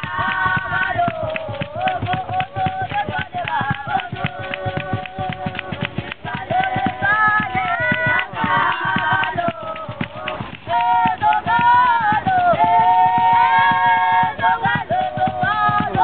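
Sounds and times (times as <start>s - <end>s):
children singing: 0.0s - 16.0s
hand claps: 0.0s - 16.0s
large drum beaten with stick: 0.0s - 16.0s.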